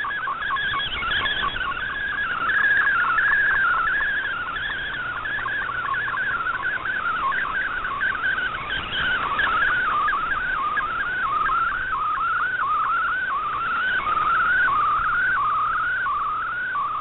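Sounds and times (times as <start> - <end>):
faint static hiss: 0.0 - 17.0
wavering whistle-like radio tone: 0.0 - 17.0.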